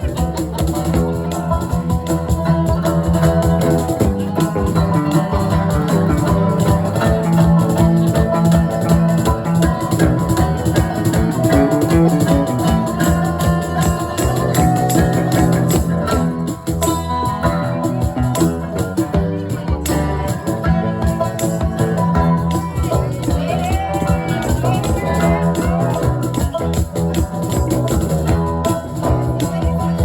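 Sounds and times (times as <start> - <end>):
bass guitar: 0.0 - 30.0
electric guitar playing: 0.0 - 30.0
shaker keeping a fast beat: 0.0 - 30.0.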